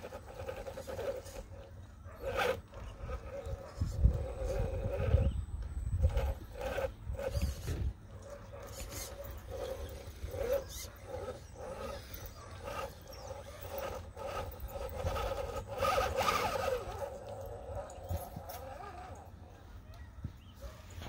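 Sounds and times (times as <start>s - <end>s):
electric motor whining: 0.0s - 19.6s.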